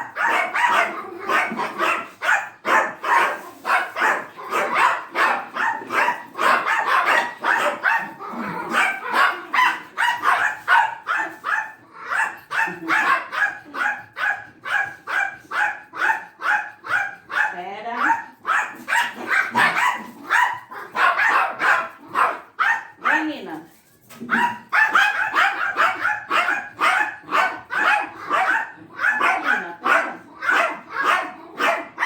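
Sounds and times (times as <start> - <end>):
dog barking: 0.0 - 23.6, 24.2 - 32.0.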